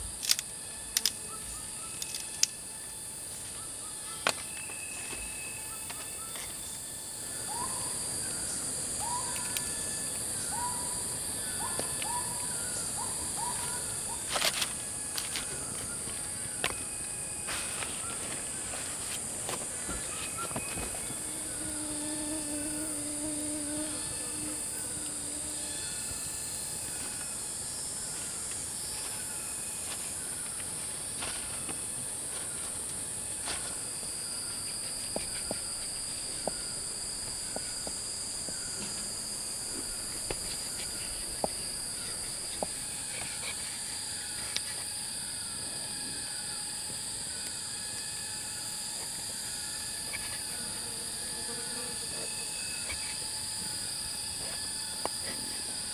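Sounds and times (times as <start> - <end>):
high steady insect tone: 0.0 - 55.9
insect drone: 0.0 - 55.9
short insect chirp: 0.0 - 55.9.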